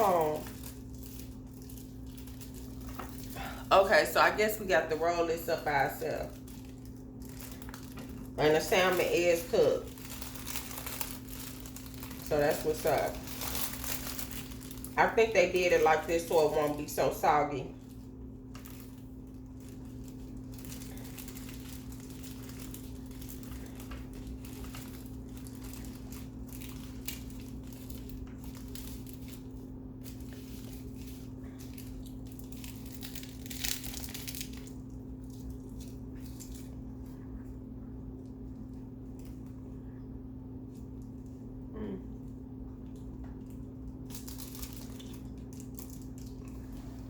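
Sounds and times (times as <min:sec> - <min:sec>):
crinkling and crunching of eating: 0:00.0 - 0:47.0
low electrical hum: 0:00.0 - 0:47.0.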